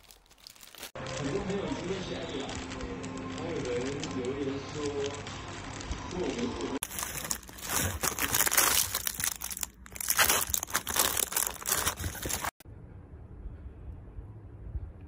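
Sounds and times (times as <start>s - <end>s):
plastic wrapping crinkling: 0.0s - 12.6s.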